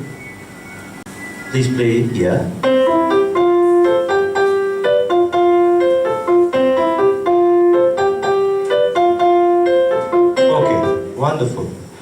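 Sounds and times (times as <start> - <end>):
piano playing latin figure: 0.0 - 12.0.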